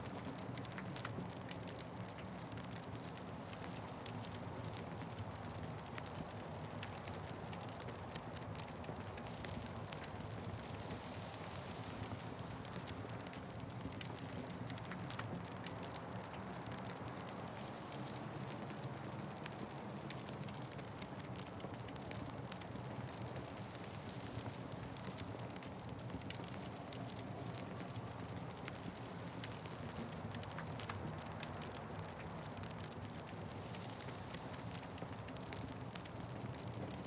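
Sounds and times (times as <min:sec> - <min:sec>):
fireplace fire crackling: 0:00.1 - 0:37.0.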